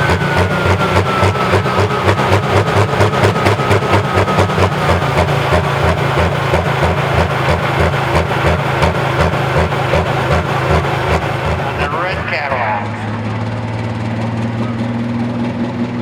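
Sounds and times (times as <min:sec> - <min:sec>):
diesel tractor engine idling: 0:00.0 - 0:16.0.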